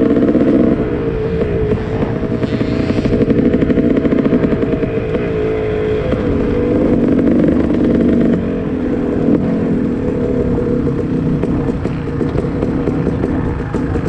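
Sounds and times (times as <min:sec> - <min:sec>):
two-stroke motorbike engine at low revs: 0:00.0 - 0:14.0.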